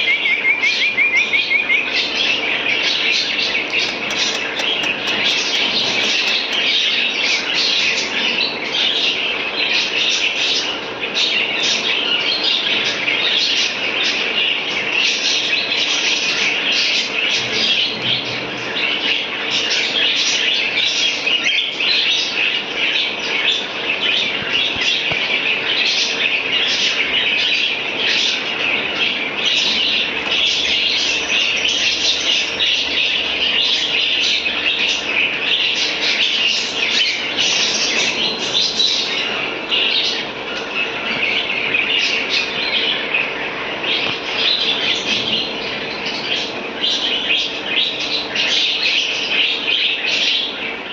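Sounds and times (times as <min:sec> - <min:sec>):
pet birds chirping: 0:00.0 - 0:50.9.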